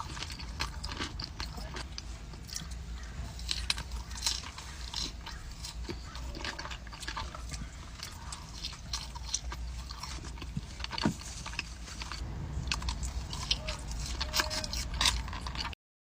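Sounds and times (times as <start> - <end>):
crunchy chewing: 0.0 - 15.8
low steady hum: 0.0 - 15.8.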